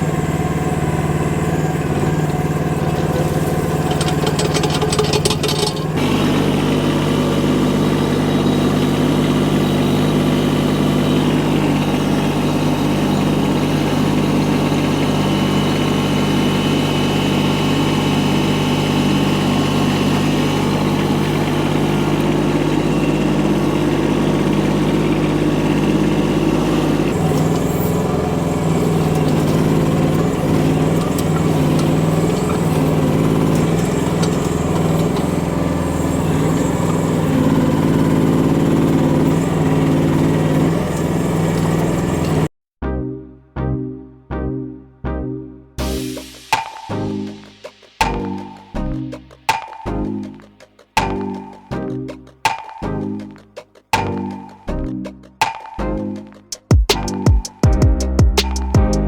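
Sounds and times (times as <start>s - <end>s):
small excavator engine running: 0.0s - 42.5s, 45.8s - 59.0s.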